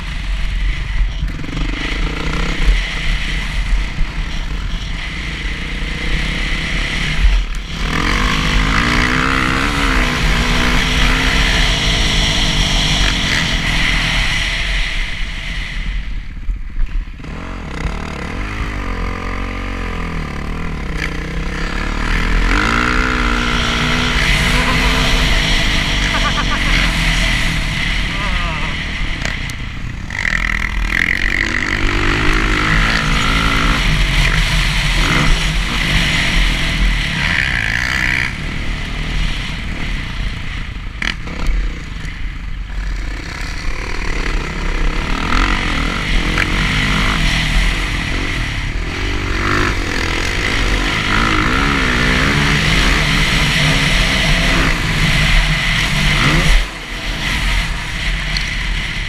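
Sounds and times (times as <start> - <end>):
dirt bike engine revving: 0.0 - 16.1, 16.9 - 59.0.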